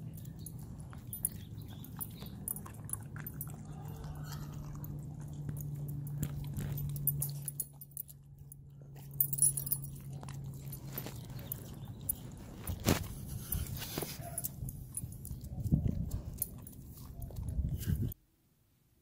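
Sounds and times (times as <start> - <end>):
dog chewing and biting food: 0.0 - 18.2
steady low hum: 0.0 - 18.2.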